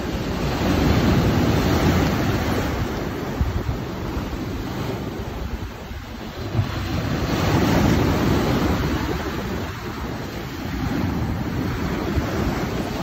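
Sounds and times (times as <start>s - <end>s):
waves breaking on rocks: 0.0s - 13.0s
wind buffeting microphone: 0.0s - 13.0s.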